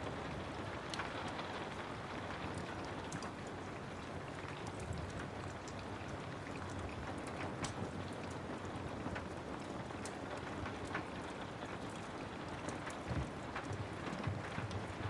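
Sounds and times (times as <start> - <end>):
steady rain: 0.0 - 15.0
wood fire crackling: 0.1 - 15.0.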